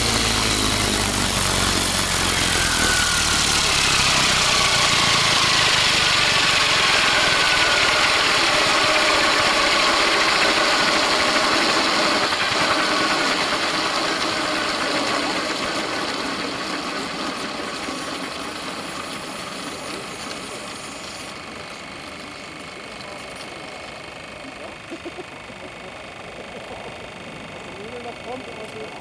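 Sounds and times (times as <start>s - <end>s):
model helicopter rotor winding down: 0.0s - 29.0s.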